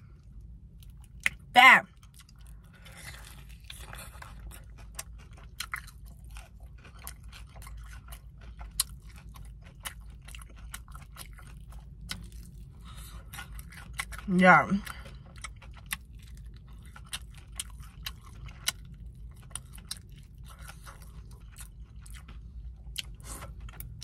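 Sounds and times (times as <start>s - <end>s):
chewing with mouth clicks: 0.1s - 24.0s
crunchy bite of fried chicken: 2.0s - 14.2s, 14.8s - 24.0s.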